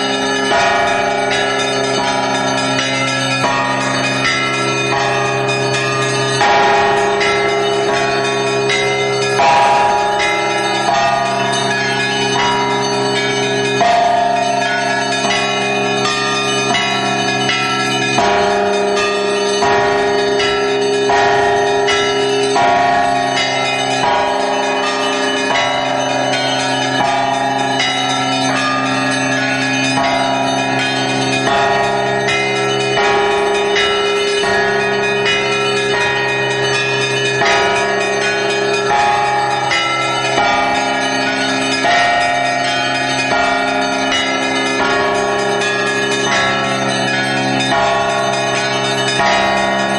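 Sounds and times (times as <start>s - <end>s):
large bells ringing: 0.0s - 49.9s
small church bells struck quickly: 0.0s - 49.9s.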